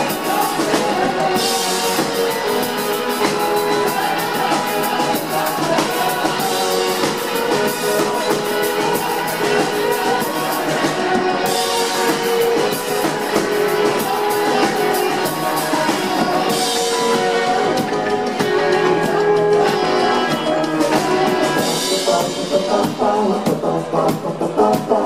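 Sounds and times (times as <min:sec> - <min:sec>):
person singing: 0:00.0 - 0:25.0
rock band playing: 0:00.0 - 0:25.0.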